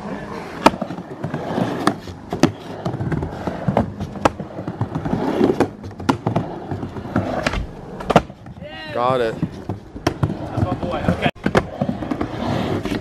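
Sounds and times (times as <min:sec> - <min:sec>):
skateboard wheels rolling: 0:00.0 - 0:13.0.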